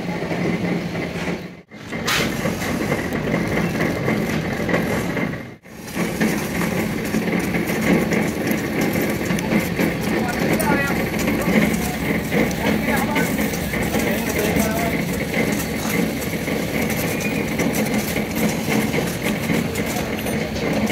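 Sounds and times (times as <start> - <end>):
engine humming: 1.5 - 20.9.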